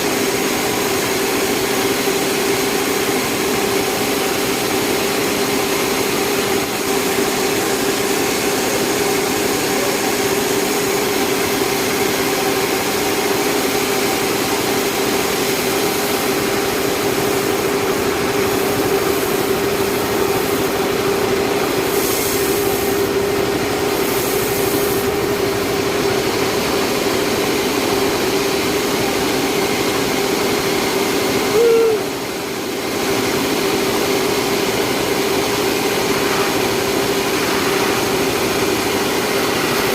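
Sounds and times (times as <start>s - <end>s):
sawmill saw humming: 0.0s - 39.9s.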